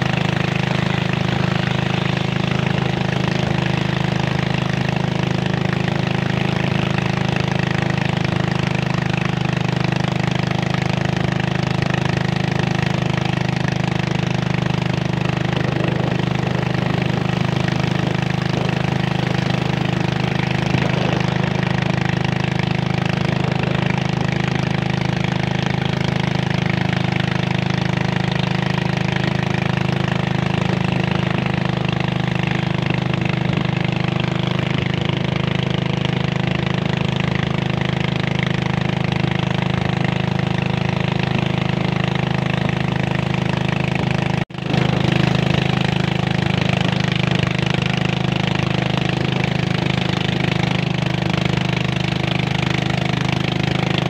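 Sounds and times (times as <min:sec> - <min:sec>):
boat engine drone: 0:00.0 - 0:54.0.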